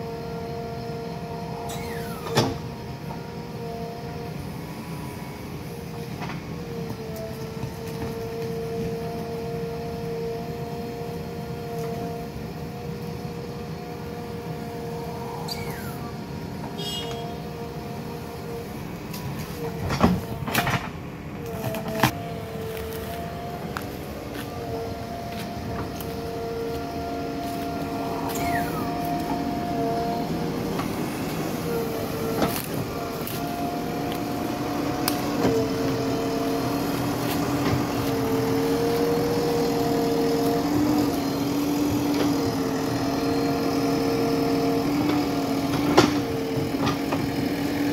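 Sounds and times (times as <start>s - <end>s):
hydraulic whine changing pitch: 0.0s - 5.6s, 13.2s - 20.4s, 21.4s - 47.9s
backhoe diesel engine under load: 0.0s - 47.9s.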